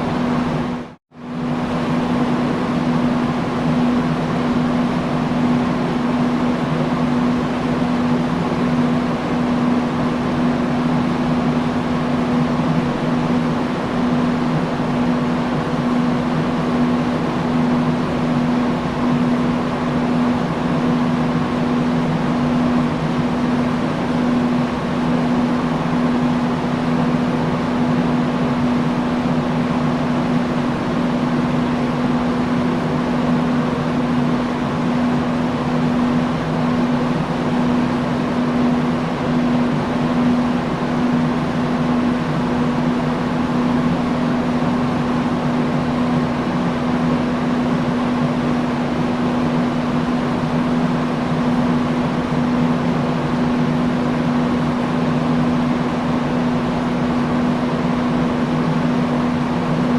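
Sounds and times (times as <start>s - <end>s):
industrial fan running: 0.0s - 59.9s.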